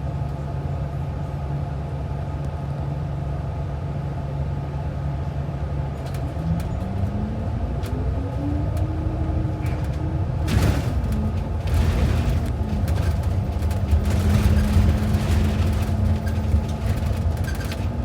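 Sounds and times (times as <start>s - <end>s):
bus engine accelerating: 0.0s - 18.0s
road noise: 0.0s - 18.0s.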